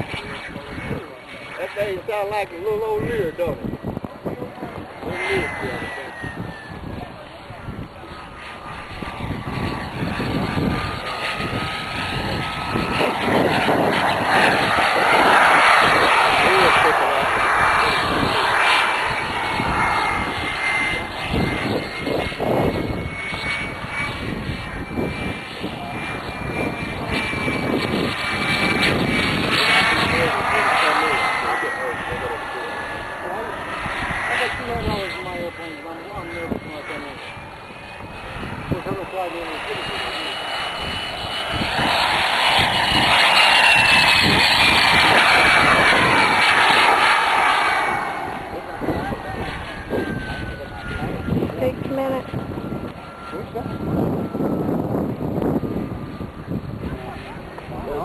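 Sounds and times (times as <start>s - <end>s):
high-pitched turbine whine: 0.0s - 58.0s
model jet engine roar: 0.0s - 58.0s.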